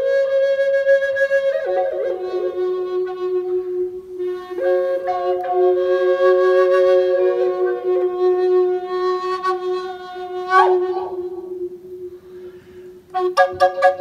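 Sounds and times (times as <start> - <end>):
drone flute playing: 0.0 - 14.0.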